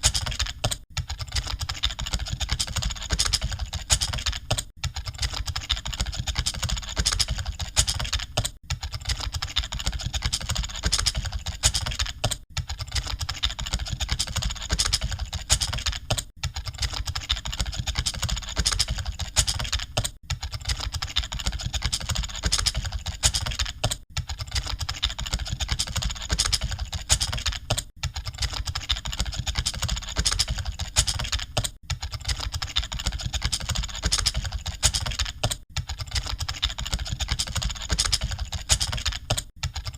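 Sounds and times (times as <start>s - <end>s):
keyboards typing rapidly: 0.0s - 39.9s.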